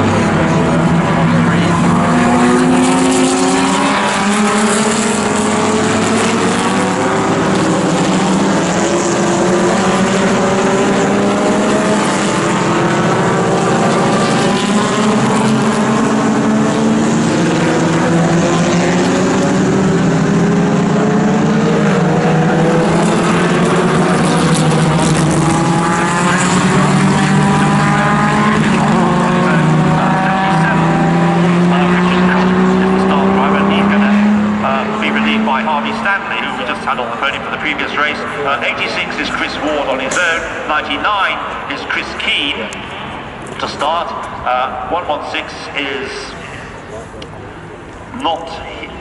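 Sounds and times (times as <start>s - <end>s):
racing car engines accelerating: 0.0s - 49.0s.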